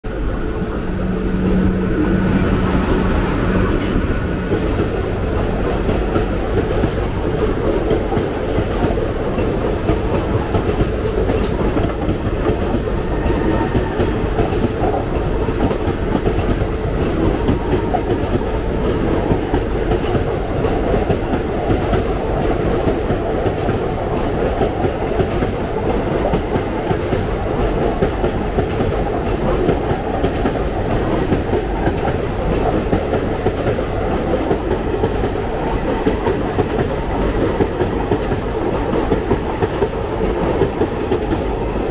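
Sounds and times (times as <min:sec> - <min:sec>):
train coaches rumbling past: 0:00.0 - 0:41.9
train wheels clacking on rails: 0:00.1 - 0:41.9.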